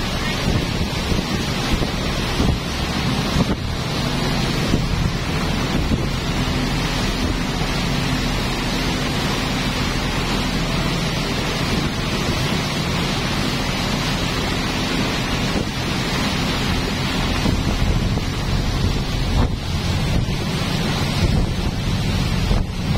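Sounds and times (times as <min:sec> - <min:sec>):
boat engine humming: 0:00.0 - 0:22.9
rushing water: 0:00.0 - 0:22.9
wind buffeting microphone: 0:00.0 - 0:22.9.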